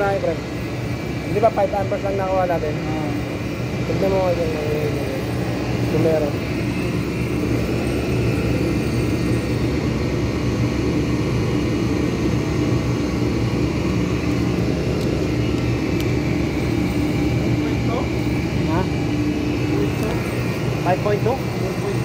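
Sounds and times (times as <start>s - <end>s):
compressor and fan drone: 0.0s - 22.0s.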